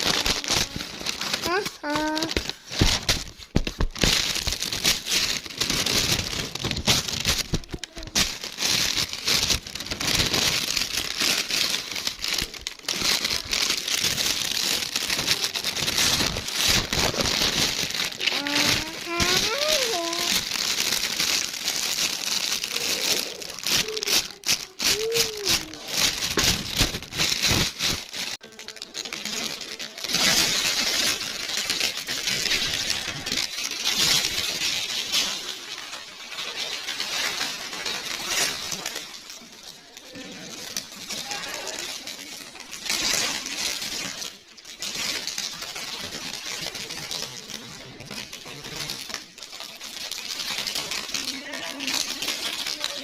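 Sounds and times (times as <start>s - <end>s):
continuous crinkling crackling: 0.0s - 53.0s.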